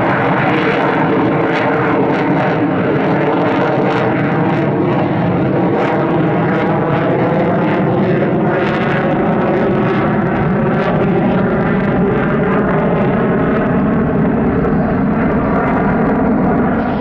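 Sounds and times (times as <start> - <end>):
aircraft engine drone: 0.0 - 17.0.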